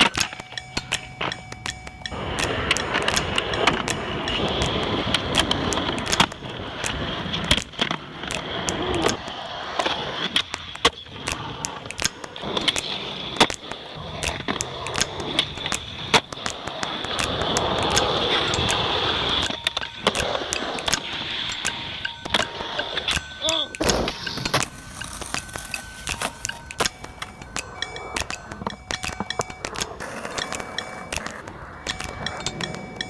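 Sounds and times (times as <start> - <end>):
skateboard clacks and knocks: 0.0 - 33.0
skateboard wheels rolling on concrete: 0.0 - 33.0.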